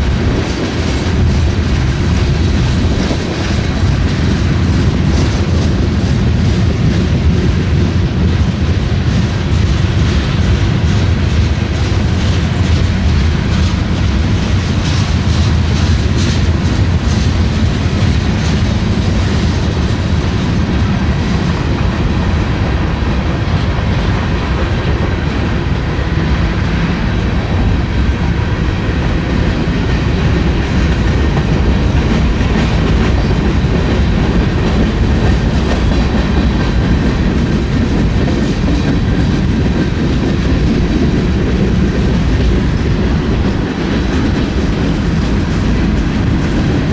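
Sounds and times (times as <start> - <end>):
freight train rumbling past: 0.0 - 46.9
wheels clicking over rail joints: 0.0 - 46.9.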